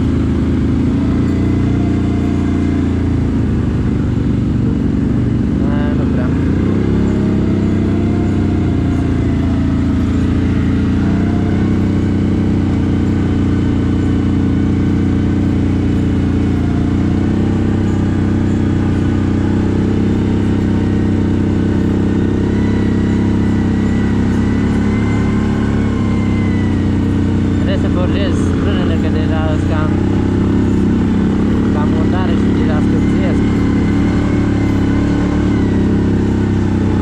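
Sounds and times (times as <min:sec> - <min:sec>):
atv engine droning: 0:00.0 - 0:37.0.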